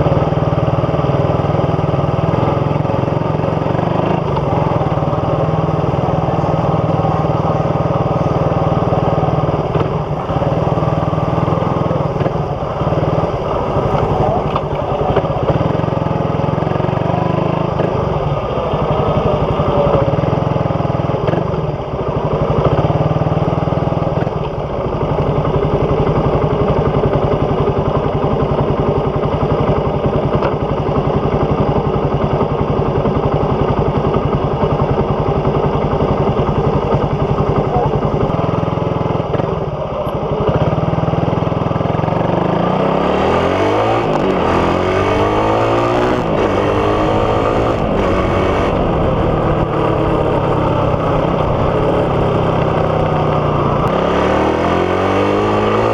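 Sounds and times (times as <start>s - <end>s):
motorcycle engine exhaust note: 0.0s - 55.9s.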